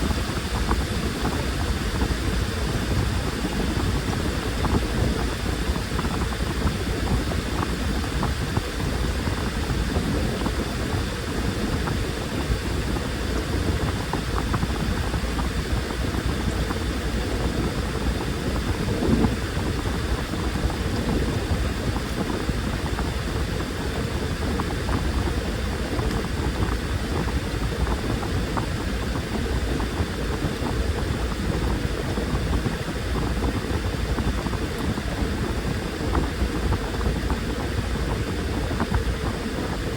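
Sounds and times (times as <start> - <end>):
washing machine drum churning: 0.0 - 39.9.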